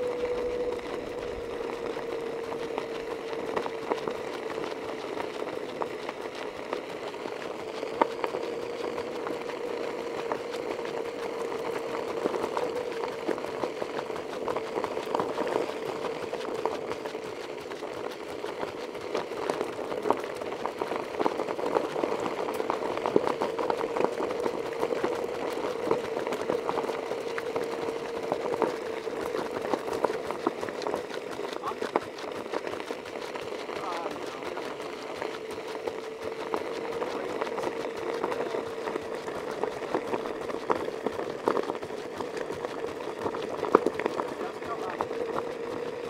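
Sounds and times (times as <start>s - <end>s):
gravel crackling under wheels: 0.0s - 46.0s
vehicle motor hum: 0.0s - 46.0s.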